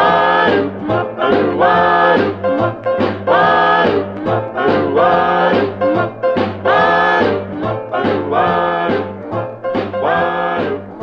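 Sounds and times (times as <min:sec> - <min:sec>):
bass line: 0:00.0 - 0:11.0
vocal group harmony singing: 0:00.0 - 0:11.0.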